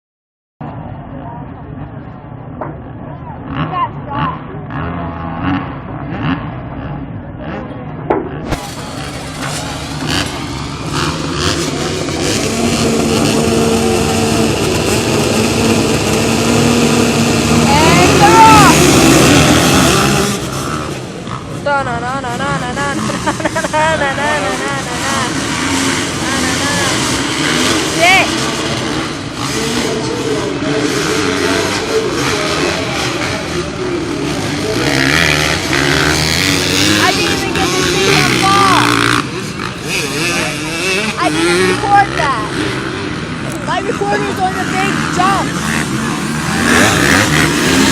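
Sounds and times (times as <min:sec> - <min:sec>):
crowd voices: 0:00.6 - 0:47.9
racing motorcycle engines: 0:00.6 - 0:47.9.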